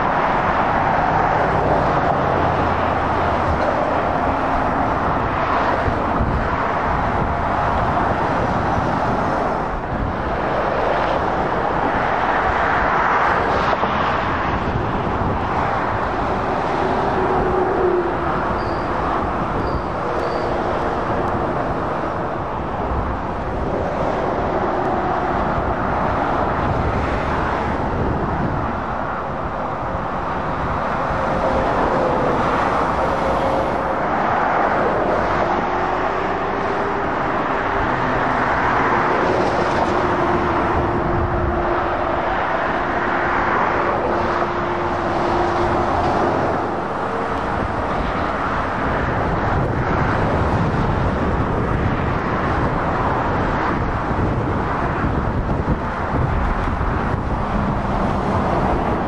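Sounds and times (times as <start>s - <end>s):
vehicles passing on motorway: 0.0s - 59.0s.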